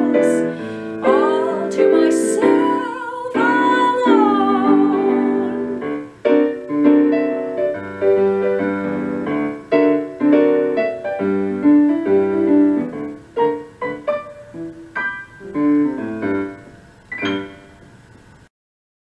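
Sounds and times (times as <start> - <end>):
piano chords: 0.0 - 18.5.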